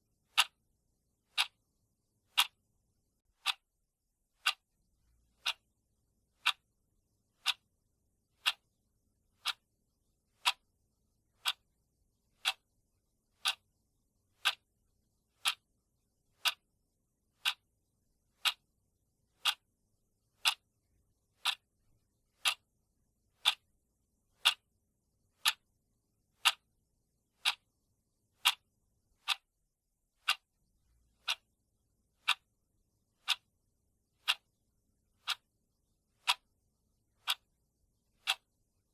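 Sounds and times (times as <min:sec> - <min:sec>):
clock ticking: 0:00.2 - 0:00.6, 0:01.2 - 0:02.6, 0:03.2 - 0:03.7, 0:04.4 - 0:06.7, 0:07.3 - 0:10.7, 0:11.3 - 0:24.7, 0:25.3 - 0:29.6, 0:30.2 - 0:38.9.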